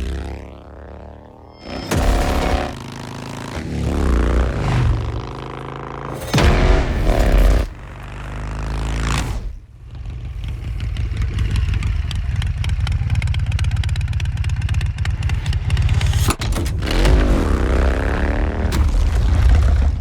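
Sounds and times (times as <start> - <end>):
motorcycle engine firing pulses: 0.0 - 20.0
motorcycle engine revving: 0.0 - 20.0.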